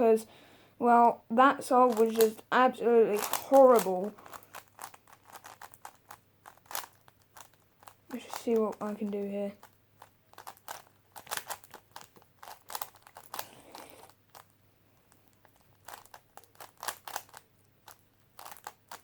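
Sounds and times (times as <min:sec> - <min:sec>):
puzzle cube clicking: 0:01.8 - 0:02.5, 0:03.1 - 0:14.5, 0:15.2 - 0:19.0.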